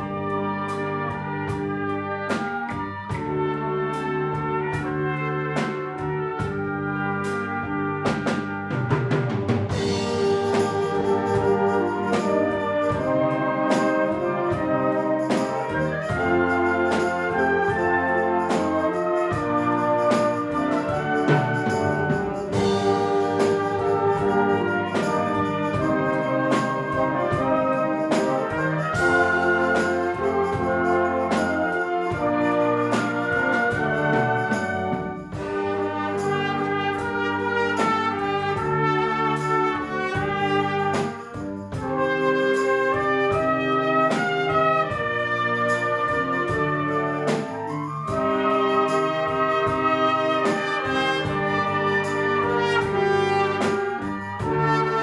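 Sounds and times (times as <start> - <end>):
brass chords: 0.0 - 55.0
percussion strokes: 9.0 - 45.1, 45.7 - 55.0.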